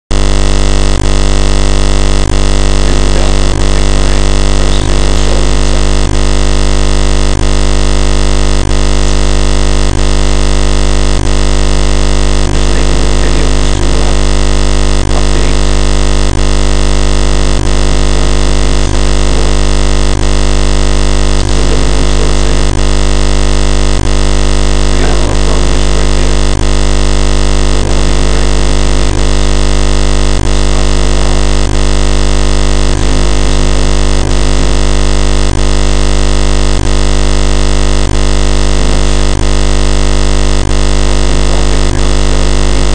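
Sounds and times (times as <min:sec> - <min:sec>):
loud electronic drone: 0:00.1 - 0:42.9.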